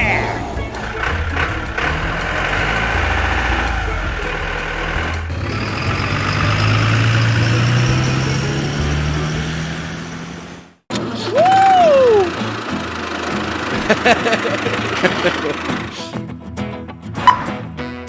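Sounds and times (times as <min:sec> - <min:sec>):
truck engine running: 0:00.0 - 0:11.1, 0:12.3 - 0:15.9.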